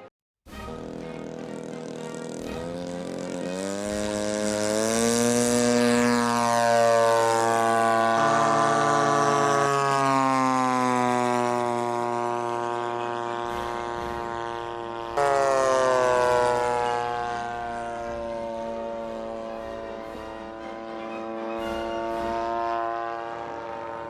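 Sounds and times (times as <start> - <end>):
model airplane engine and propeller: 0.0 - 24.0.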